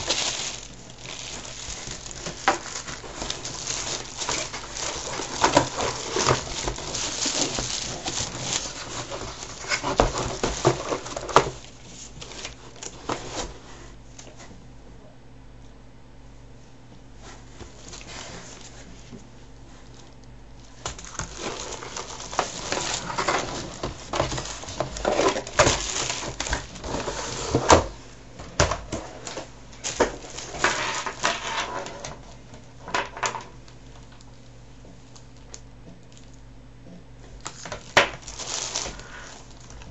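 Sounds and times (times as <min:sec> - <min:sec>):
packaging rustling and crinkling: 0:00.0 - 0:13.6, 0:17.4 - 0:19.2, 0:19.8 - 0:28.0, 0:28.6 - 0:34.5, 0:37.3 - 0:39.9.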